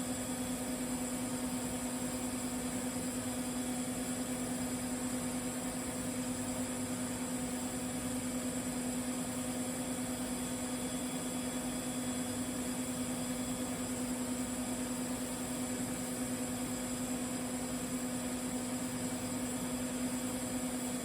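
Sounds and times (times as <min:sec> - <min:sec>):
welding arc humming and hissing: 0:00.0 - 0:21.0.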